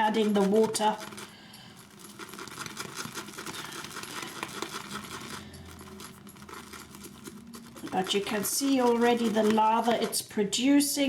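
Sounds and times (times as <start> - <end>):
shaving brush whisking lather: 0.0 - 10.6.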